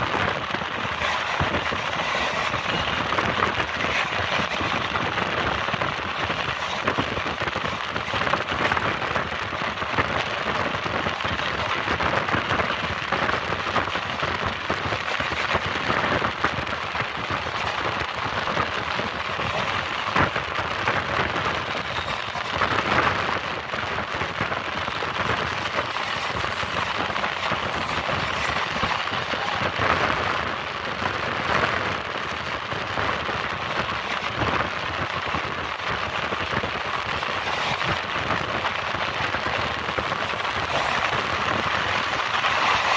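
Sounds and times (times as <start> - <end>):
train wheels rattling over rails: 0.0 - 42.9.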